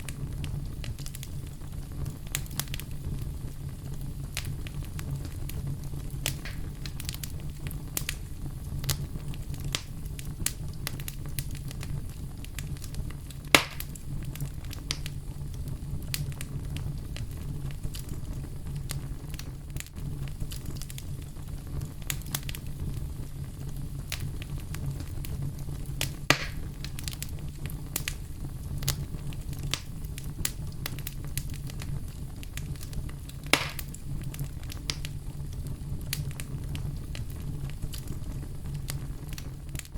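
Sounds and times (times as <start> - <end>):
campfire burning: 0.0 - 39.9
wood crackling and popping: 0.0 - 39.9.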